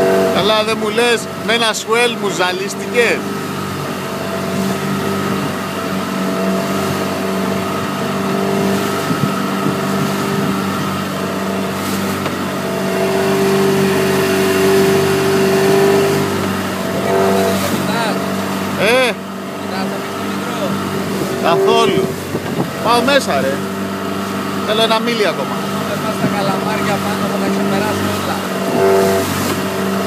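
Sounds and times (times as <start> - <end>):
boat engine droning: 0.0 - 30.0
wind: 0.0 - 30.0.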